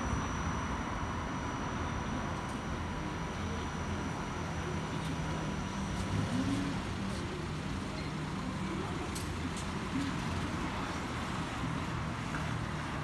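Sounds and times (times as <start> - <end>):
road vehicles humming: 0.0 - 13.0.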